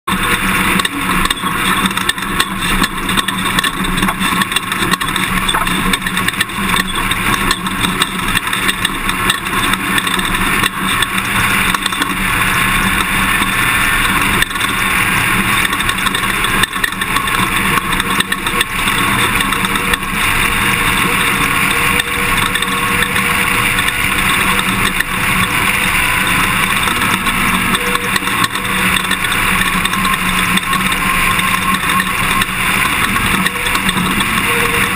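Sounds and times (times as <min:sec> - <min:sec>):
road and chassis noise: 0:00.0 - 0:34.9
pickup truck engine running: 0:00.1 - 0:34.9.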